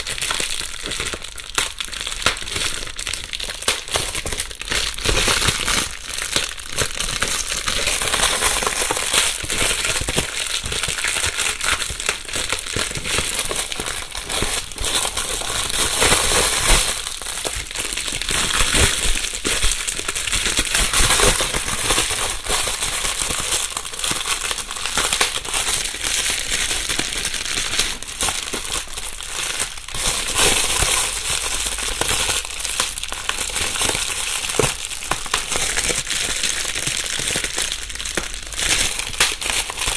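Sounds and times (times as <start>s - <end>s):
bubble wrap crinkling and popping: 0.0s - 39.9s.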